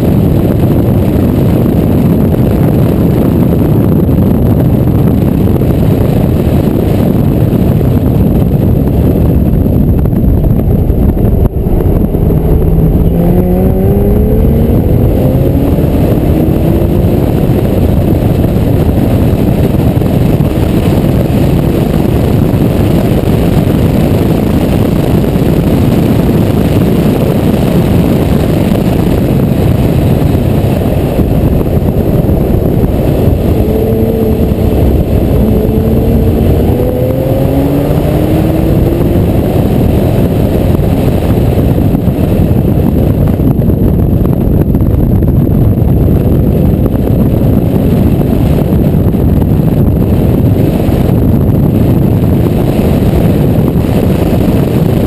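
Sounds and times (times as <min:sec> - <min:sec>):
car engine running: 0:00.0 - 0:55.0
loud wind rush: 0:00.0 - 0:55.0.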